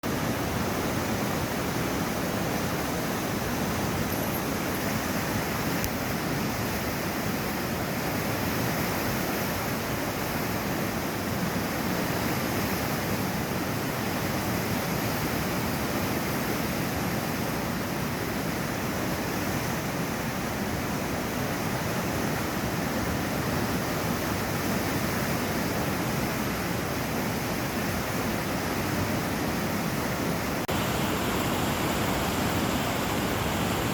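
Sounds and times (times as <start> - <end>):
water rushing through a weir: 0.1 - 33.9.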